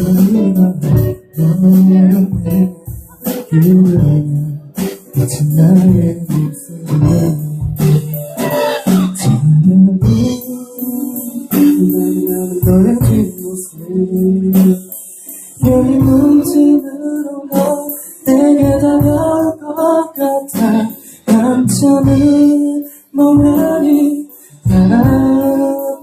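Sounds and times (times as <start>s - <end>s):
drums and cymbals: 0.0s - 26.0s
guitar chords: 0.0s - 26.0s.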